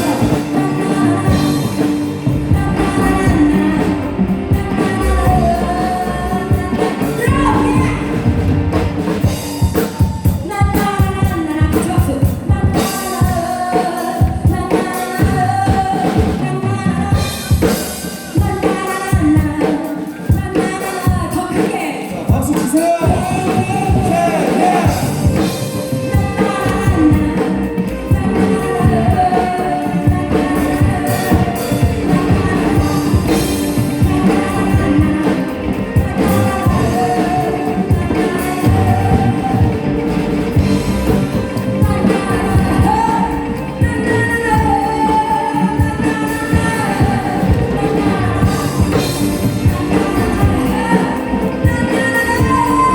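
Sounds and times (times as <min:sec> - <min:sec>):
amplified instruments: 0:00.0 - 0:52.9
drum kit: 0:00.0 - 0:52.9
person singing: 0:00.0 - 0:52.9.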